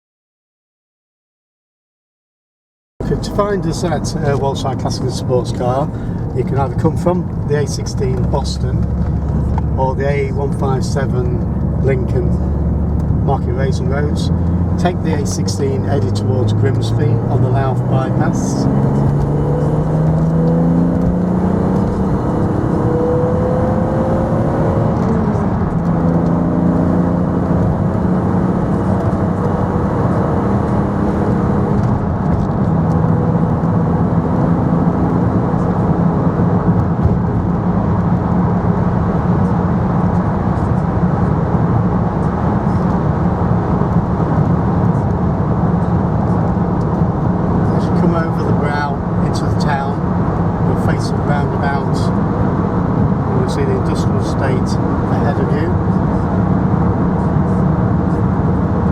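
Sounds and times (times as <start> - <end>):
car engine accelerating: 3.0 - 58.9
road noise: 3.0 - 58.9.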